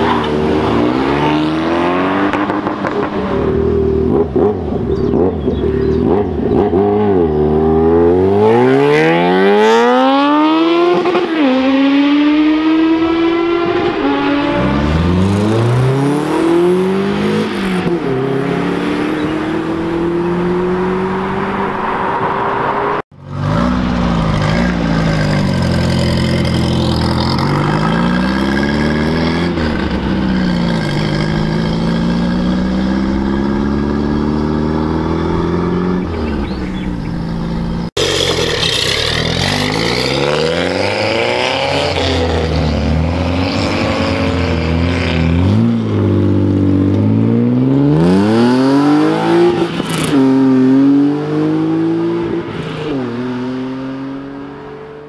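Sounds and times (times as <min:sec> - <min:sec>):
car engine revving: 0:00.0 - 0:55.0
car pulling away with revs: 0:00.0 - 0:55.0.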